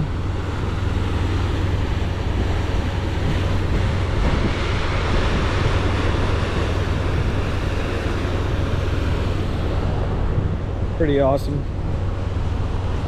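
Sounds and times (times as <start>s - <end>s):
ferry engines droning: 0.0s - 13.0s
rushing water: 0.0s - 13.0s
wind on microphone: 0.0s - 13.0s.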